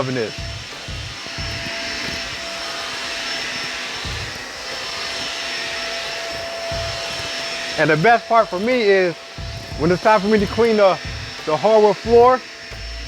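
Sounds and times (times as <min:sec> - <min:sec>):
upright vacuum cleaner running: 0:00.0 - 0:13.0.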